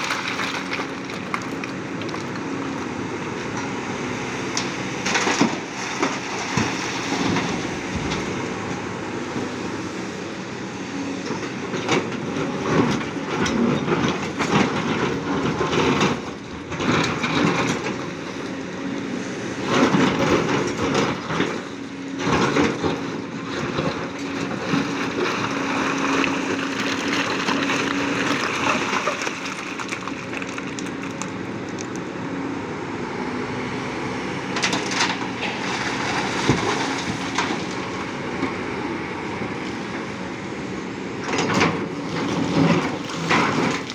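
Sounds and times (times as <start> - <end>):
excavator engine under load: 0.0 - 43.9.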